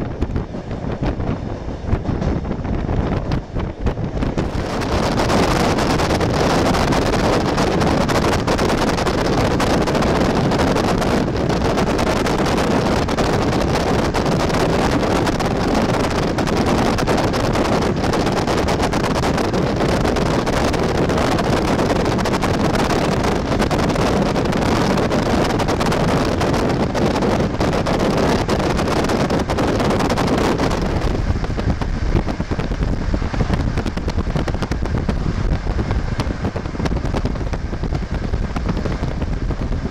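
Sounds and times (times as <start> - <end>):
moving train rumble: 0.0 - 39.9
wind buffeting microphone: 0.0 - 39.9.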